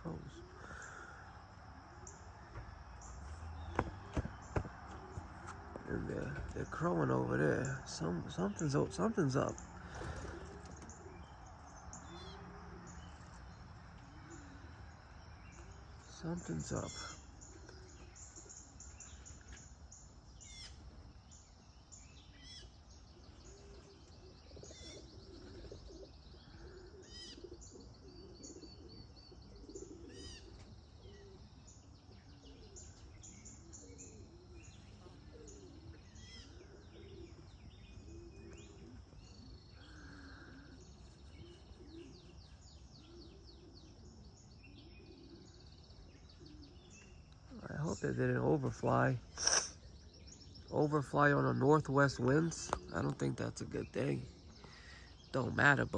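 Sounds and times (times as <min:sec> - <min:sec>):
small birds chirping and trilling: 0:00.0 - 0:55.9.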